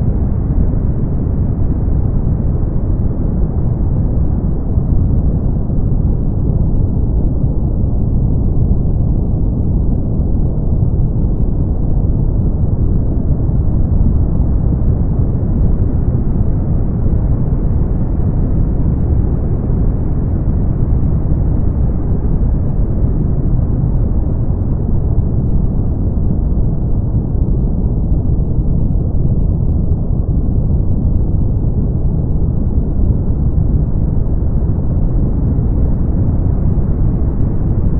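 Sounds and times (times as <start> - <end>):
brown noise rumbling hiss: 0.0 - 37.9.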